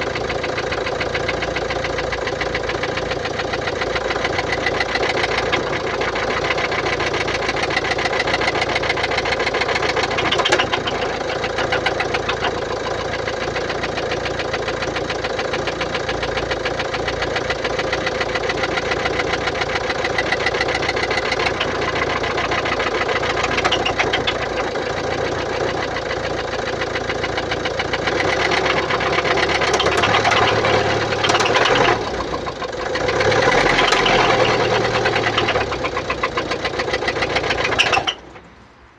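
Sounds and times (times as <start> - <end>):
diesel engine idling with clatter: 0.0 - 38.9.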